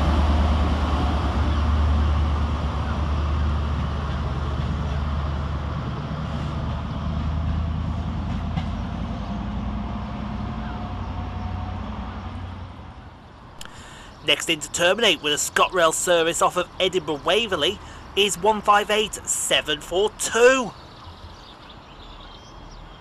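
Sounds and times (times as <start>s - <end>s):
train diesel engine droning: 0.0s - 20.7s.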